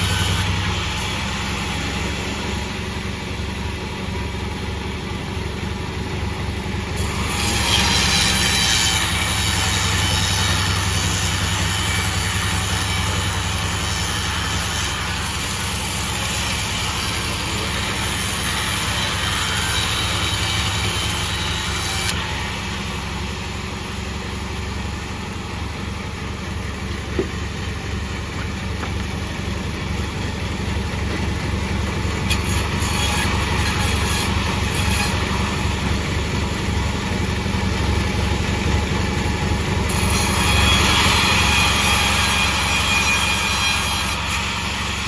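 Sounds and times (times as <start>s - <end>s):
sawmill machine droning: 0.0s - 45.0s.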